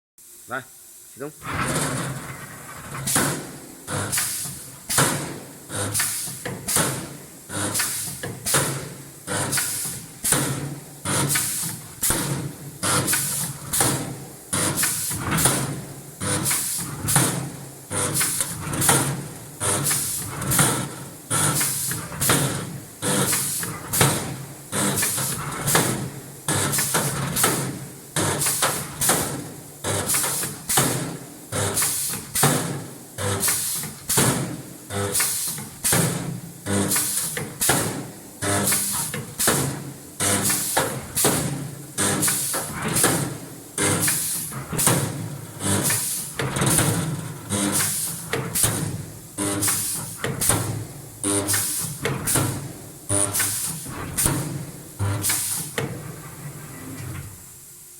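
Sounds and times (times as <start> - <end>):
pneumatic clunk: 1.4 - 57.8.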